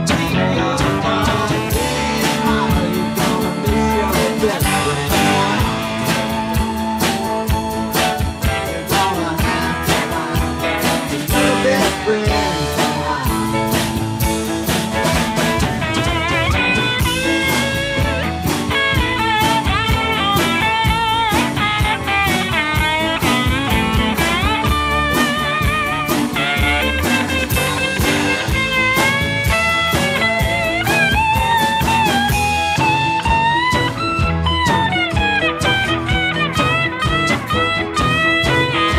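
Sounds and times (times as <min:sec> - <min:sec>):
drums keeping a beat: 0:00.0 - 0:38.9
pedal steel guitar lead: 0:00.0 - 0:38.9
strummed guitar: 0:00.0 - 0:38.9.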